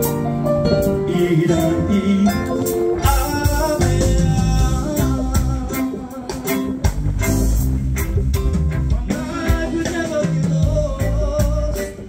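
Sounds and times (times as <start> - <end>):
heavy bass and drum beat: 0.0 - 12.0
live band playing: 0.0 - 12.0.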